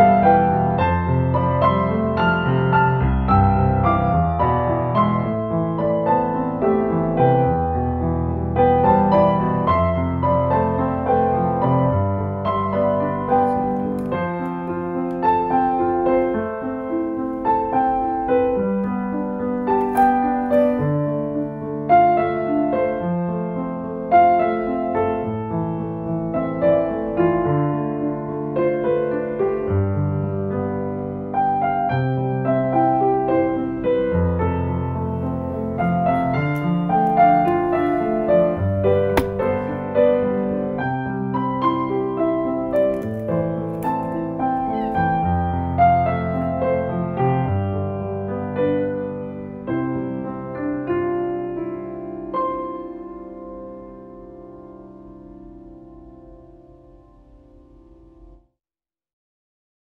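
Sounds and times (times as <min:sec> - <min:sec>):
slow solo piano: 0:00.0 - 0:58.6.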